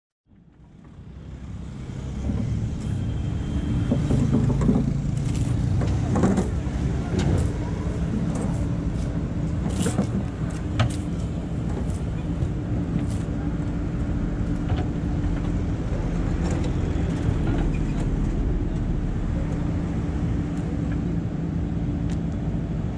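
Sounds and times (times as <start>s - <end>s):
diesel engine running: 0.4s - 22.9s.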